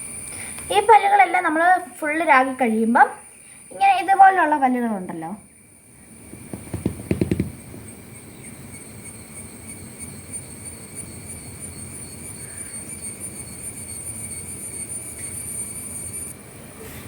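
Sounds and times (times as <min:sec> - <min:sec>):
crickets trilling: 0:00.0 - 0:17.0
low outdoor hum: 0:00.0 - 0:17.0.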